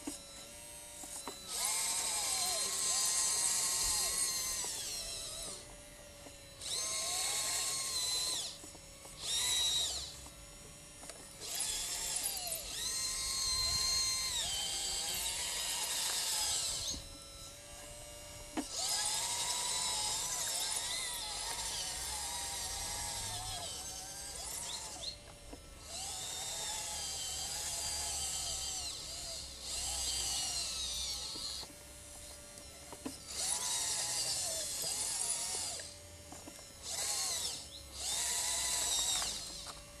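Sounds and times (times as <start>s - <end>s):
electric motors whining: 0.0s - 40.0s.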